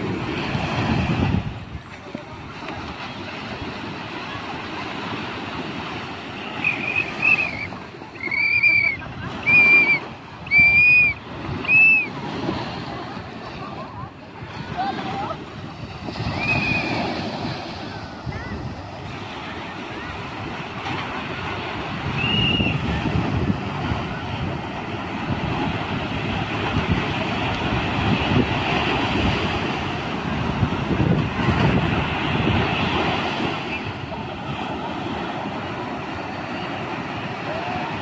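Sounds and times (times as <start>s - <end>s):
surf breaking on beach: 0.0s - 38.0s.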